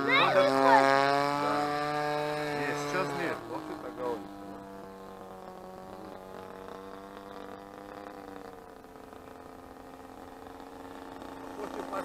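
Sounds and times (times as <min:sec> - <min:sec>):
distant model plane engine: 0:00.0 - 0:12.0.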